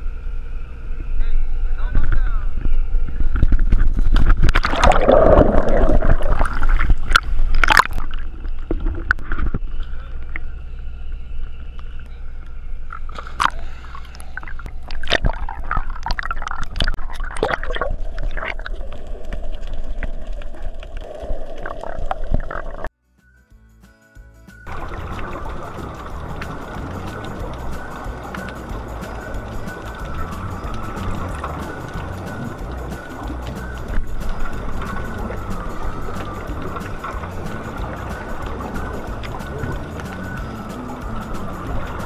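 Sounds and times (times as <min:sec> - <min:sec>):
water gurgling and slapping: 0:03.2 - 0:10.0, 0:13.1 - 0:22.9, 0:24.7 - 0:42.0
water splashing: 0:03.4 - 0:10.5, 0:12.9 - 0:22.9, 0:24.7 - 0:42.0.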